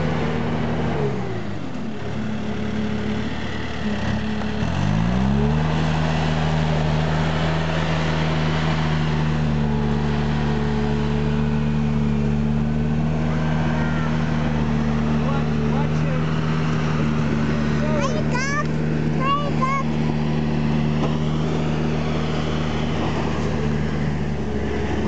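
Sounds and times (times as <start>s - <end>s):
loader diesel engine revving: 0.0s - 25.0s.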